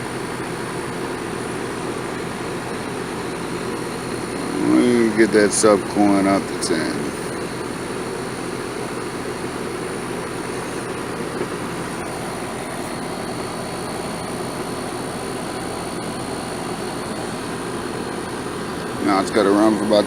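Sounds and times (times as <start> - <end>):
air conditioner fan noise: 0.0 - 20.0
low compressor hum: 0.0 - 20.0.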